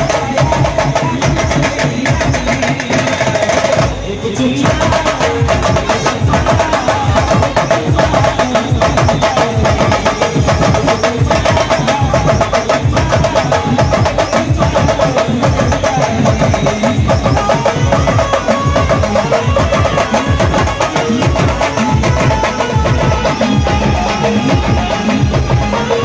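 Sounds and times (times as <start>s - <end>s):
fast loud drumming: 0.0s - 26.0s.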